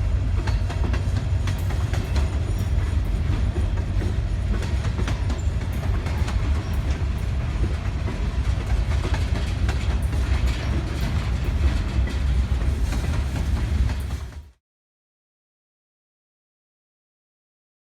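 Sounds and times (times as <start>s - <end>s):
train rolling on rails: 0.0s - 14.6s.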